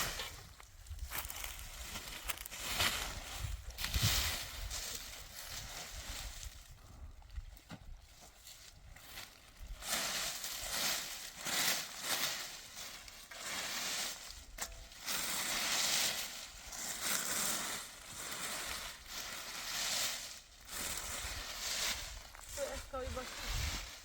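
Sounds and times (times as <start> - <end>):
crunching and rustling: 0.0 - 24.0.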